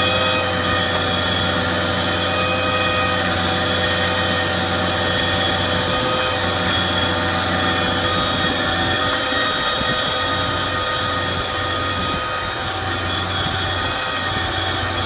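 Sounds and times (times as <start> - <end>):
silt pump machine droning: 0.0 - 15.0.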